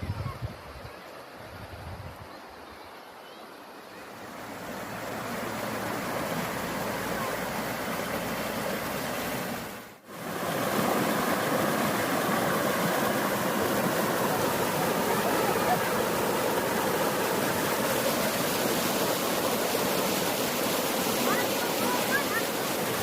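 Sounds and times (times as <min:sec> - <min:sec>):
rushing river water: 0:00.0 - 0:23.0.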